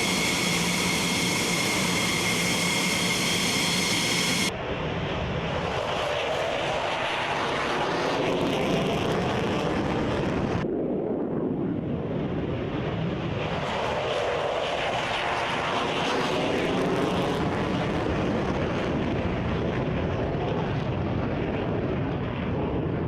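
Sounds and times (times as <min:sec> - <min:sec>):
jet engine running loud: 0:00.0 - 0:10.7, 0:11.8 - 0:23.0.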